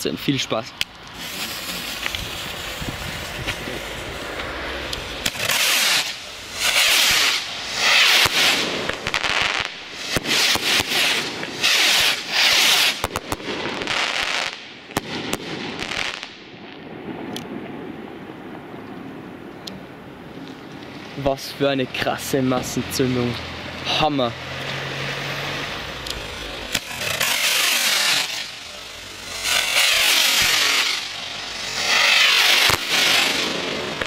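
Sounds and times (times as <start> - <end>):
rockets hissing and banging: 0.8 - 16.4, 20.5 - 34.0.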